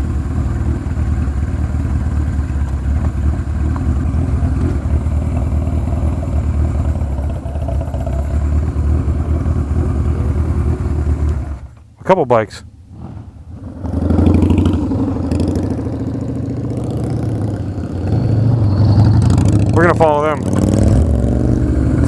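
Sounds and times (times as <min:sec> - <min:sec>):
motorcycle engine running: 0:00.0 - 0:11.8, 0:13.0 - 0:22.0.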